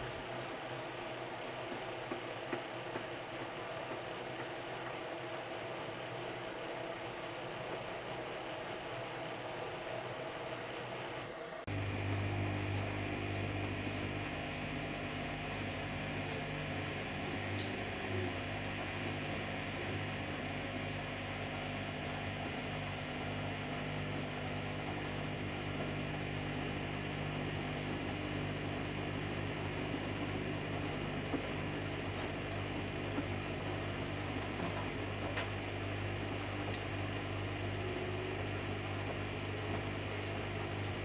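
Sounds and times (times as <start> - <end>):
washing machine motor hum: 0.0 - 41.0.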